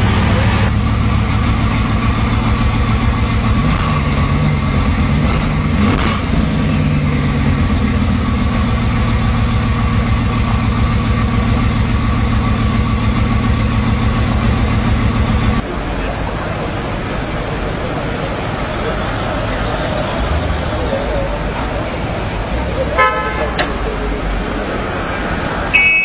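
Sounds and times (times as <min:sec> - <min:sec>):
car engine idling: 0:00.0 - 0:25.8.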